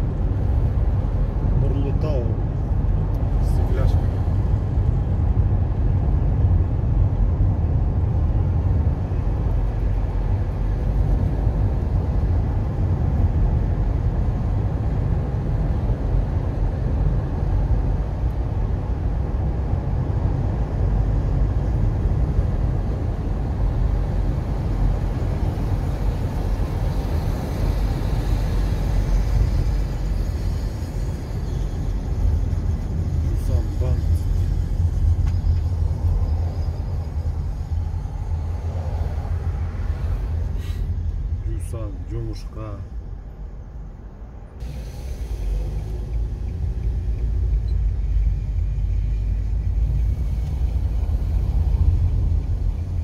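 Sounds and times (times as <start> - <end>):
car interior road rumble: 0.0 - 53.0.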